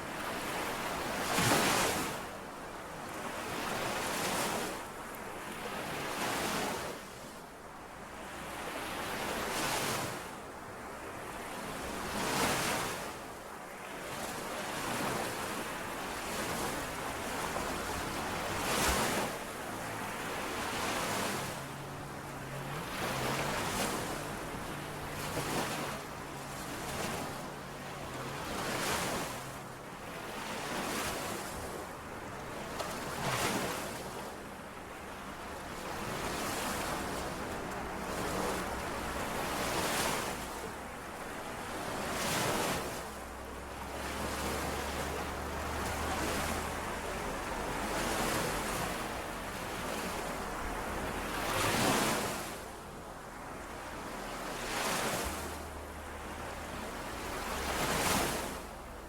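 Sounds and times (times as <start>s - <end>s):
lake waves washing on shore: 0.0s - 59.0s.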